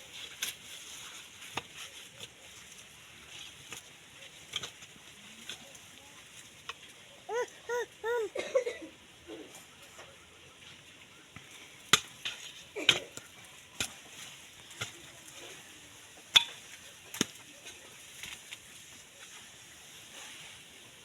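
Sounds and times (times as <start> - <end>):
knocks and scrapes in soil: 0.0 - 7.2, 9.3 - 21.0.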